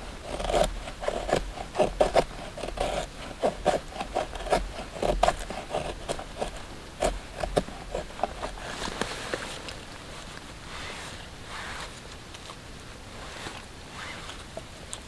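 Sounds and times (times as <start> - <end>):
knife scraping wood: 0.0 - 12.6.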